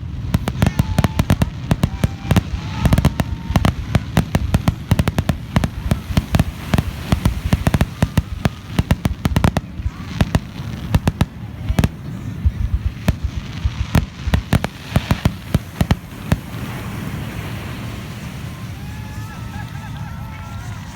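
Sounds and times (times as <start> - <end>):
fireworks bangs: 0.0 - 19.7
steady rushing noise: 0.0 - 20.9.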